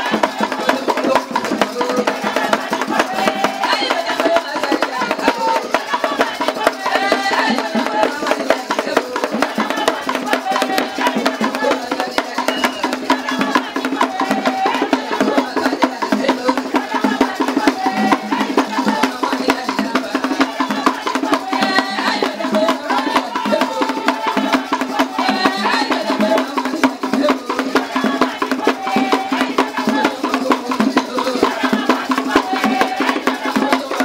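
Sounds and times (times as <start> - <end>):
fast dense percussion: 0.0 - 34.0
voices singing: 0.0 - 34.0.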